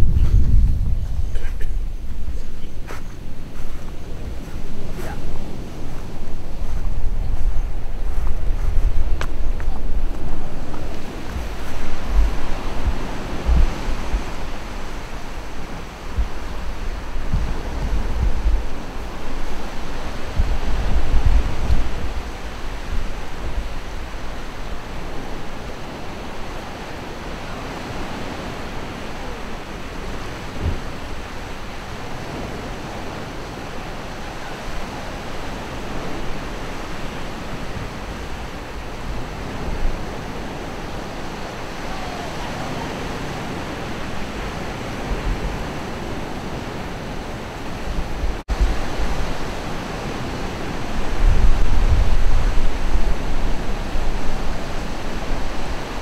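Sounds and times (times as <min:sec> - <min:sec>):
wind gusts on microphone: 0:00.0 - 0:56.0.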